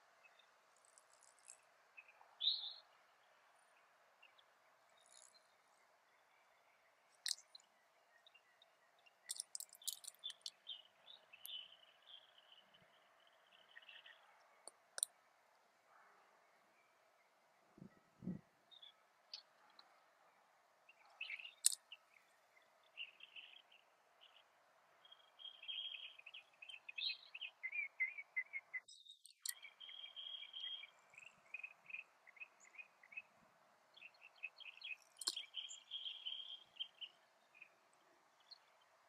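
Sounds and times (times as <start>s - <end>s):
birds chirping: 0.2s - 15.1s, 15.9s - 38.9s.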